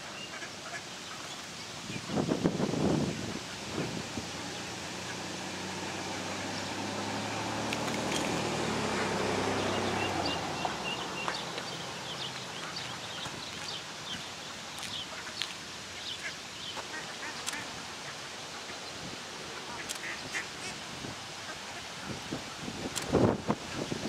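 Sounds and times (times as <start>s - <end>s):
low engine hum: 2.2s - 24.0s.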